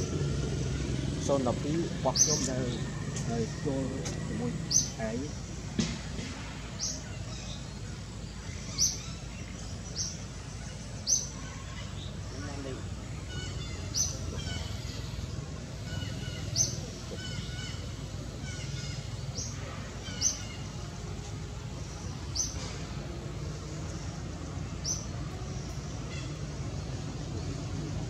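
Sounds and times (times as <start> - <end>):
birds chirping: 0.0 - 28.0
low background rumble: 0.0 - 28.0.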